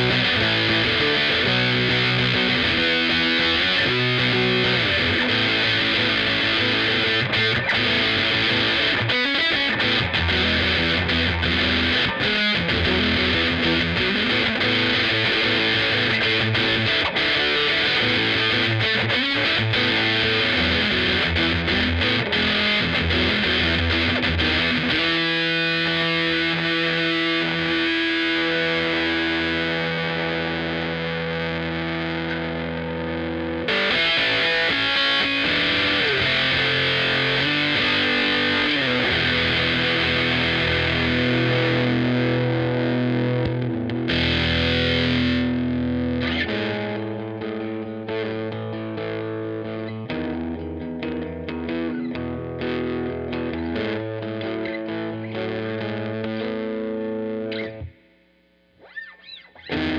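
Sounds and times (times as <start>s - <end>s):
fuzz-distorted bass guitar notes: 0.0s - 59.9s.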